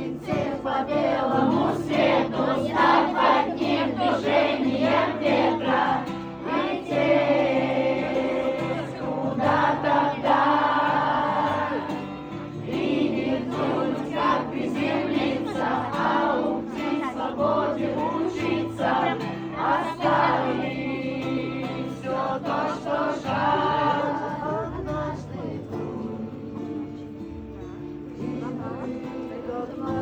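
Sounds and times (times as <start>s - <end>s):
acoustic guitar: 0.0s - 30.0s
group of voices singing: 0.0s - 30.0s.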